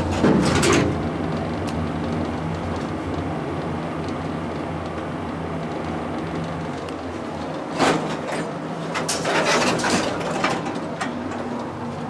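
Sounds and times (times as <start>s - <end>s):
elevator doors closing: 0.0s - 3.4s, 4.4s - 12.0s
elevator machinery humming: 0.0s - 12.0s.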